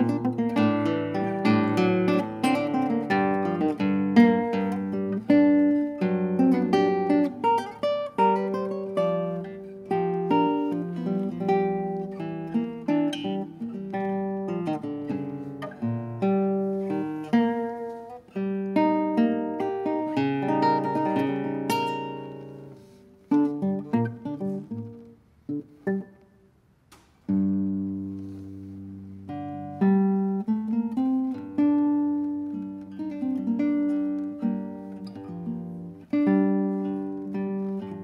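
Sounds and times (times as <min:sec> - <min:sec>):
classical guitar playing: 0:00.0 - 0:38.0.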